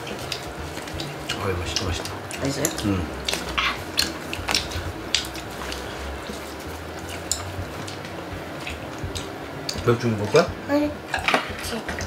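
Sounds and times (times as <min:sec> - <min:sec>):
chopsticks clicking on bowls: 0:00.0 - 0:10.4
wet chewing: 0:00.0 - 0:12.0.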